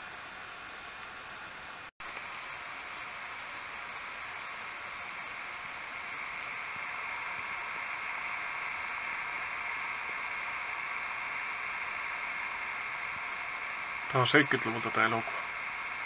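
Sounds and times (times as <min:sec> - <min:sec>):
steady hiss from television: 0:00.0 - 0:16.0.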